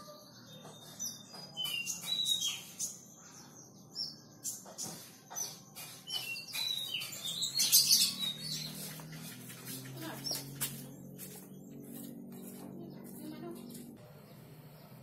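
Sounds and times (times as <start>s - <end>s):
sunbird singing: 0.0s - 15.0s.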